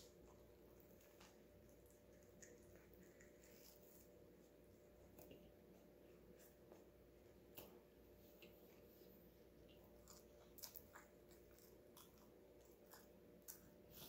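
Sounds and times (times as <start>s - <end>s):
wet chewing smacks and clicks: 0.0s - 6.9s, 9.6s - 14.0s
low steady hum: 0.0s - 14.0s.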